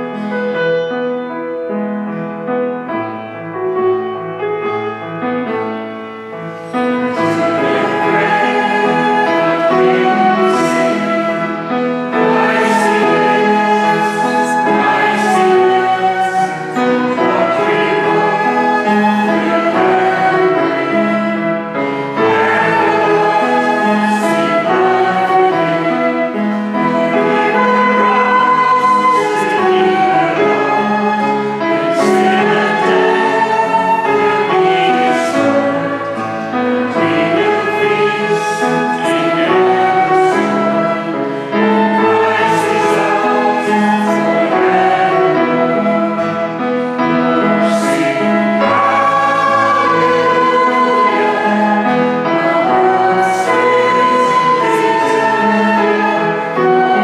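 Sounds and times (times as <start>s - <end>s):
hymn on piano flute and guitar: 0.0s - 57.0s
voices singing: 6.6s - 57.0s.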